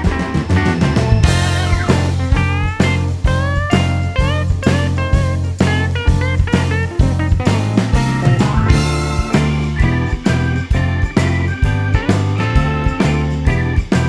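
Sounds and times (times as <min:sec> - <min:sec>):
guitar with drum kit music: 0:00.0 - 0:14.0.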